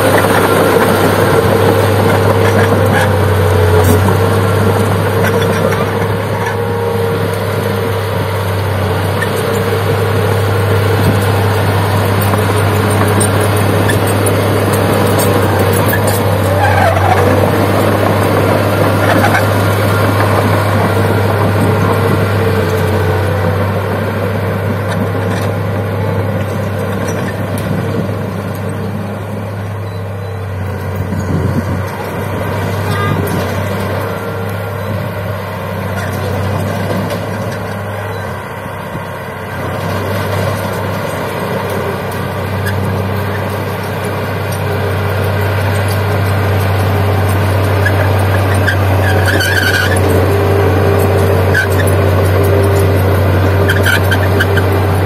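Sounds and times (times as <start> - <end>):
bulldozer diesel engine running: 0.0 - 55.0
steel tracks clanking: 0.0 - 55.0.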